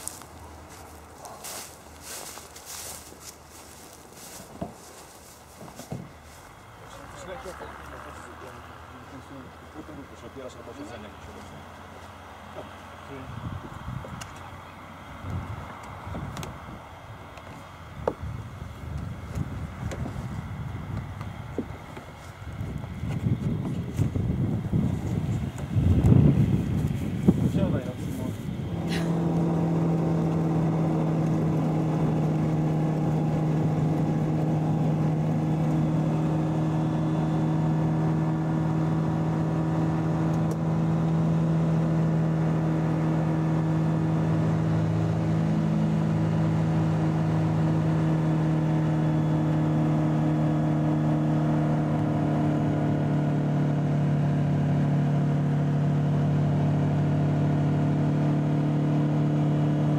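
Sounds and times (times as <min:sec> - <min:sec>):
propeller engine drone: 0:00.0 - 0:59.9.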